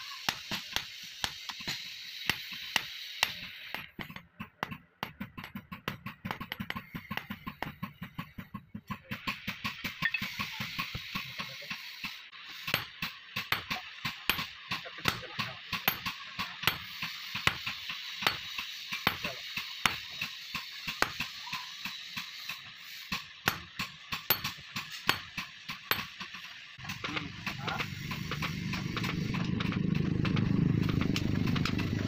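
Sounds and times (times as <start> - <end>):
hammers striking steel on anvil: 0.0 - 29.3.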